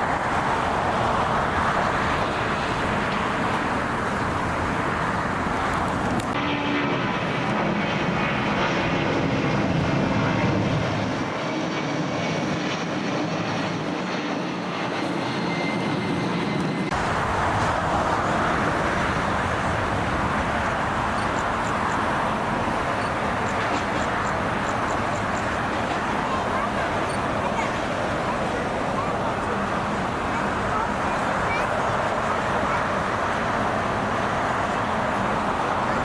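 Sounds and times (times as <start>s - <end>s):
jet airliner engine rush: 0.0s - 36.0s.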